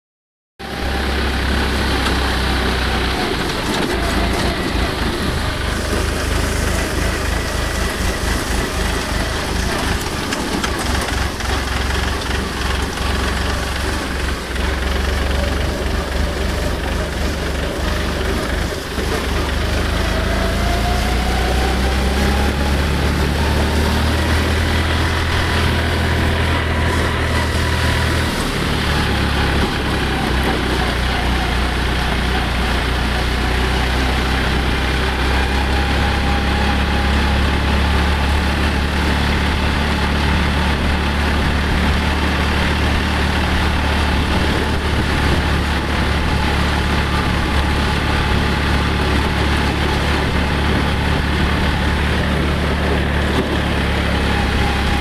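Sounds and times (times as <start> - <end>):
tractor engine running: 0.6 - 55.0
wheels splashing through water: 0.6 - 55.0.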